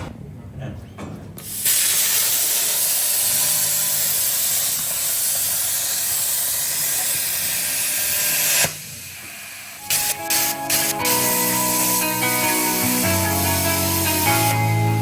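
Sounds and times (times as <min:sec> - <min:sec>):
plasma cutter hissing: 0:01.4 - 0:15.0.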